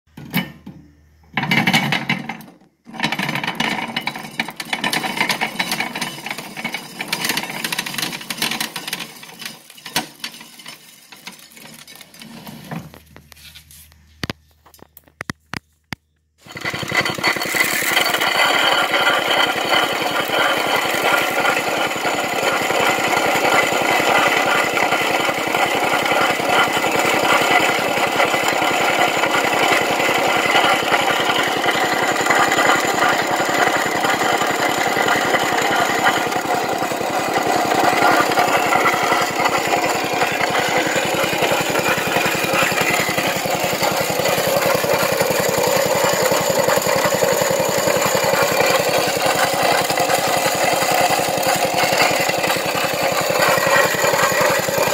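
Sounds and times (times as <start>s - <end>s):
single-cylinder engine running: 1.4s - 13.0s, 16.4s - 54.9s
corn poured into hopper: 1.4s - 13.5s, 16.4s - 54.9s
corn sheller clattering: 1.4s - 13.5s, 16.4s - 54.9s
grist mill grinding: 1.4s - 13.5s, 16.4s - 54.9s.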